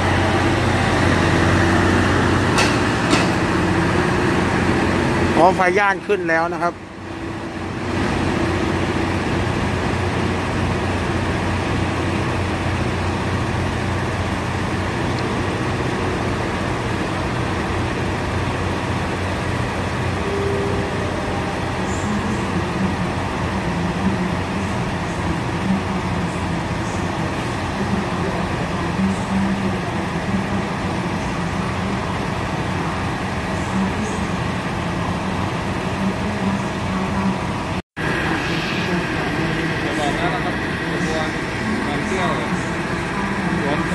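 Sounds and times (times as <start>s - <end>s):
diesel engine rumble: 0.0s - 43.9s.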